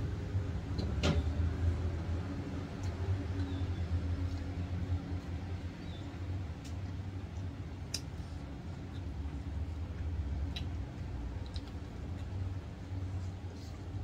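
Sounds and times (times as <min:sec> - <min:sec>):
steady low hum: 0:00.0 - 0:14.0
soft chewing: 0:02.2 - 0:14.0.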